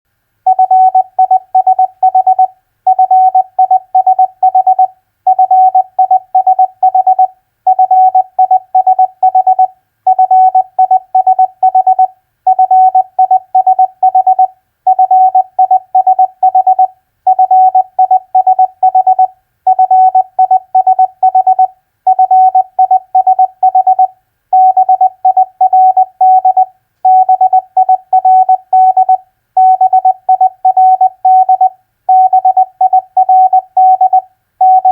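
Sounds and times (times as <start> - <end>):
morse code tone: 0.5 - 34.9.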